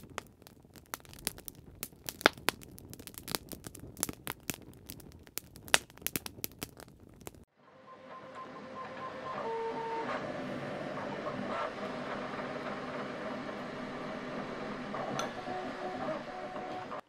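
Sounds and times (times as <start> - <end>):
wood fire crackling: 0.0 - 7.5, 10.7 - 17.0.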